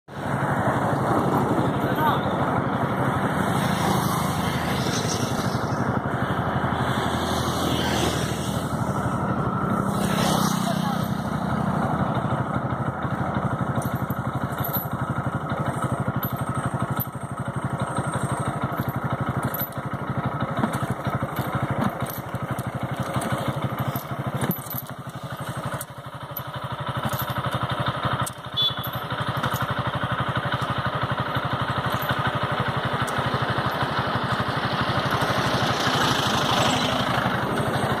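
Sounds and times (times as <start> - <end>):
road noise: 0.0 - 38.0
small motorcycle engine running: 0.1 - 38.0.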